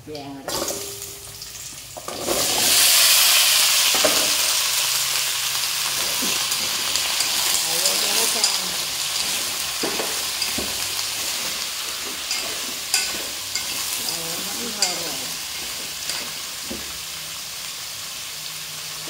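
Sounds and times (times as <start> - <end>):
vegetables sizzling in hot oil: 0.2 - 19.0.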